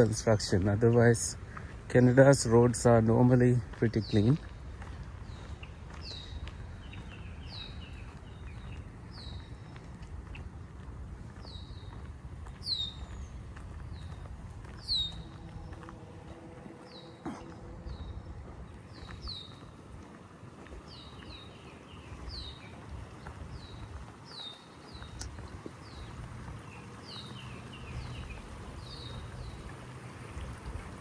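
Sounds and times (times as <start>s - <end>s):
songbird calling: 0.0s - 10.5s, 11.4s - 16.0s, 16.7s - 19.8s, 20.8s - 29.8s.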